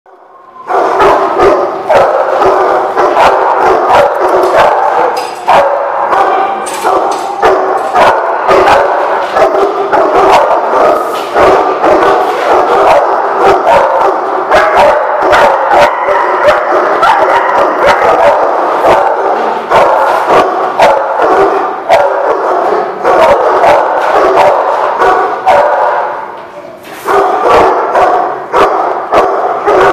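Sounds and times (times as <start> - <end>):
dogs barking and yipping: 0.5 - 26.4, 27.0 - 29.9.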